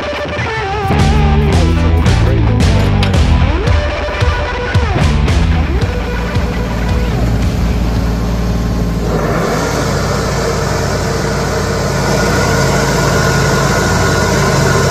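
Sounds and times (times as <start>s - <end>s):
tractor engine running mower: 0.9s - 14.9s.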